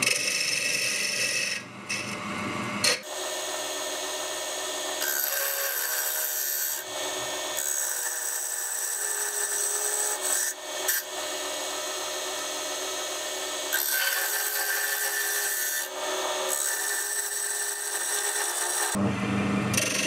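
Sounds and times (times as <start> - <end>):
lathe motor whine: 0.0 - 20.0
cutter rasping on spinning wood: 2.9 - 19.0.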